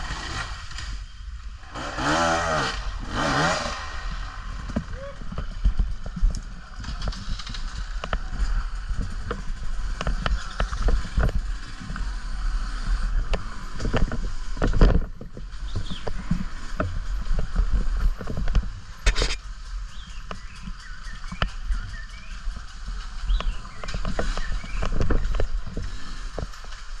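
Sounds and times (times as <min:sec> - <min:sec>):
knocks and rattles on rough ground: 0:00.0 - 0:27.0
trail bike rumble: 0:00.0 - 0:27.0.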